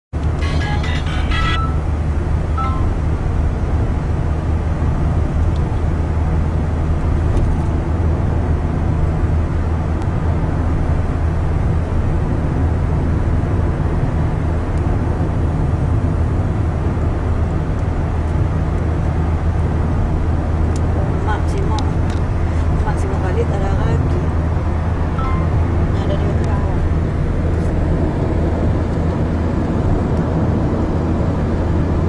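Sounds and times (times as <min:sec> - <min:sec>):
car engine drone: 0:00.1 - 0:32.0
road noise: 0:00.1 - 0:32.0.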